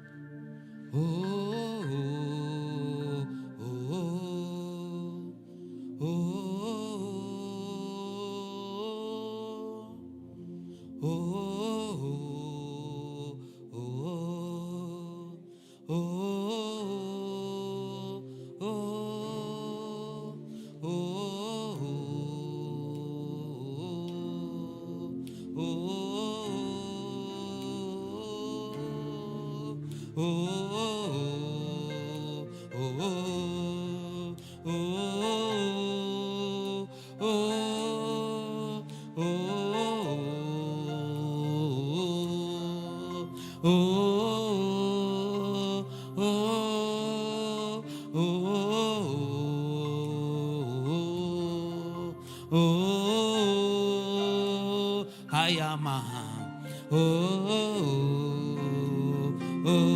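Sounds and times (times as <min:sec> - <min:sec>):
person singing long notes: 0:00.0 - 0:59.9.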